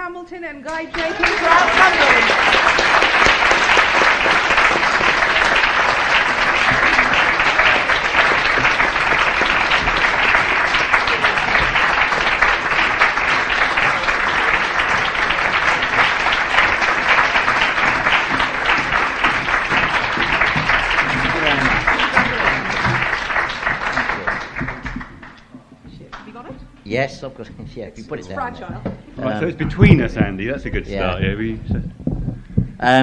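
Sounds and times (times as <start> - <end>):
audience applauding: 0.7 - 26.6, 28.3 - 33.0.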